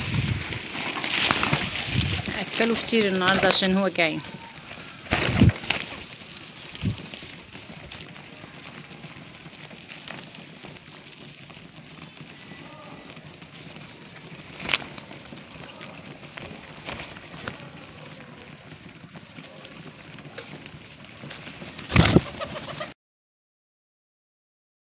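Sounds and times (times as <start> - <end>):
pigeons pecking grain: 0.0 - 23.0.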